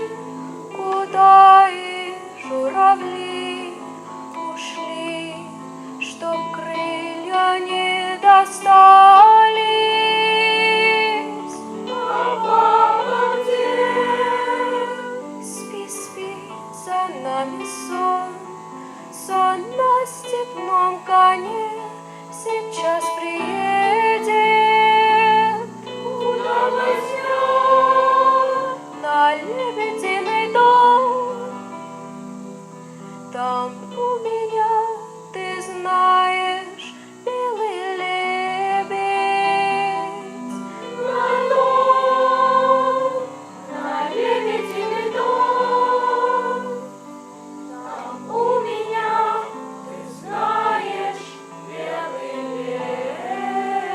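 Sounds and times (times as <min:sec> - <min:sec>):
voices singing a song: 0:00.0 - 0:31.6, 0:33.4 - 0:53.9.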